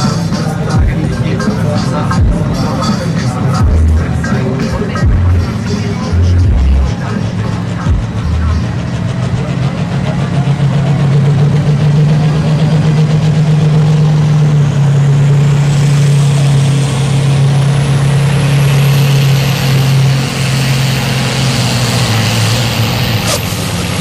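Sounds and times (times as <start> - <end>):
high whine climbing in pitch: 0.0 - 23.2
tractor diesel engine droning: 0.0 - 24.0.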